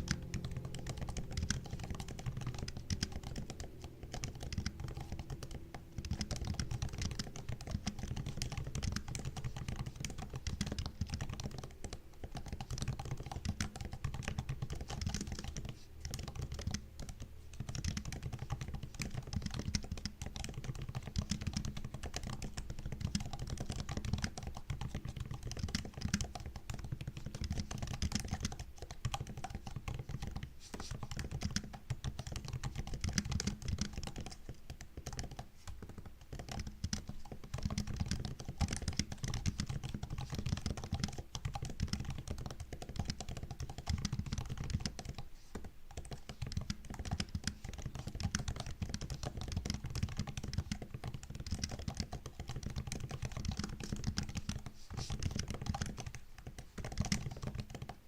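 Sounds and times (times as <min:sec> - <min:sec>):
typing on laptop keyboard: 0:00.0 - 0:58.0.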